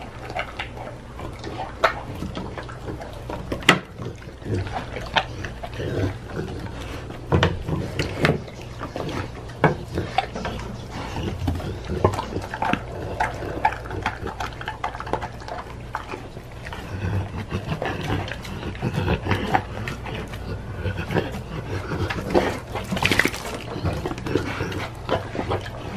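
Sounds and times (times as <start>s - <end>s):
dog chewing wetly: 0.0s - 25.9s
teeth clicking: 0.0s - 25.9s.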